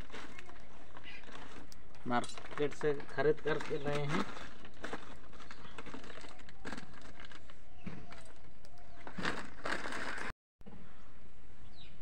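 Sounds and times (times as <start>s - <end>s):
plastic sack rustling: 0.0s - 10.3s.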